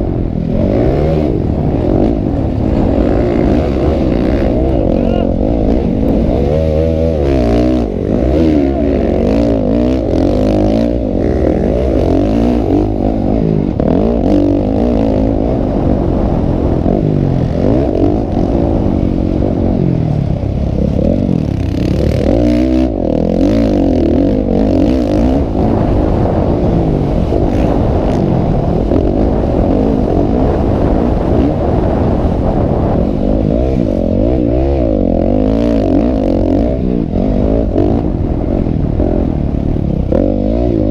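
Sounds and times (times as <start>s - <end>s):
motocross engines revving: 0.0s - 40.9s.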